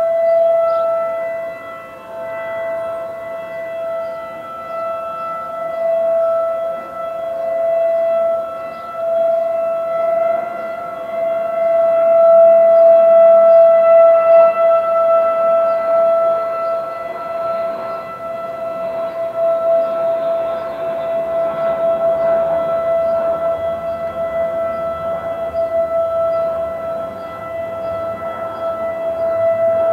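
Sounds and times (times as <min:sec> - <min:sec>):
second siren at different pitch: 0:00.0 - 0:29.9
warning siren wailing: 0:00.0 - 0:29.9.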